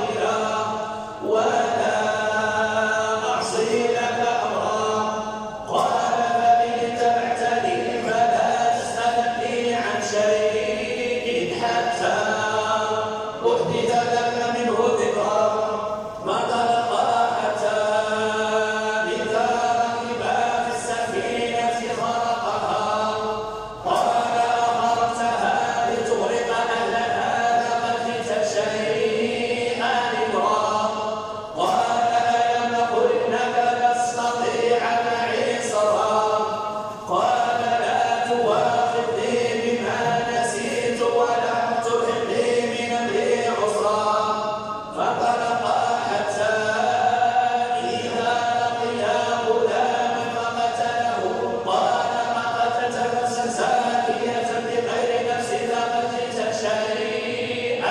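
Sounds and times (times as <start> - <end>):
chanted recitation: 0.0 - 57.9.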